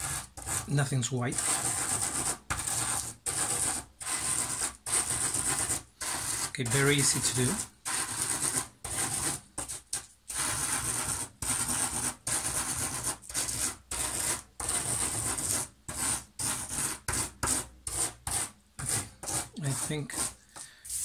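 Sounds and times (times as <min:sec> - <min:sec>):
chalk rasping through salt: 0:00.0 - 0:21.0.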